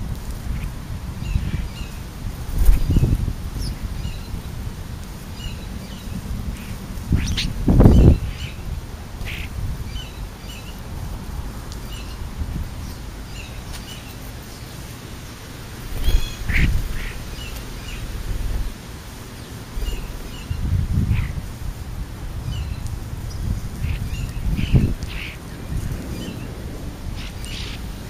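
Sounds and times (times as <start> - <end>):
birds chirping: 0.0 - 28.0
low steady rumble: 0.0 - 28.0.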